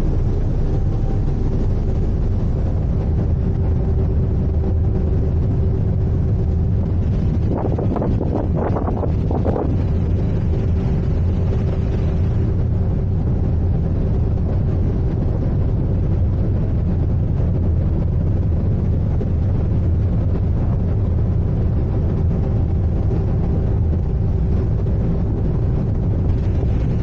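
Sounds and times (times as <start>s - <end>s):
ship engine rumble: 0.0s - 27.0s.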